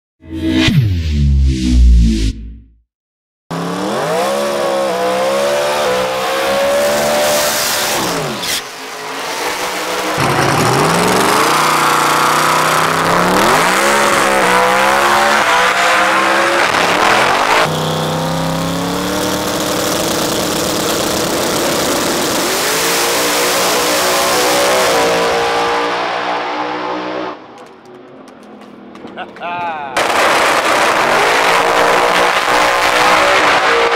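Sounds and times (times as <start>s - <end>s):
race car engine revving: 3.5s - 27.4s, 30.0s - 33.9s.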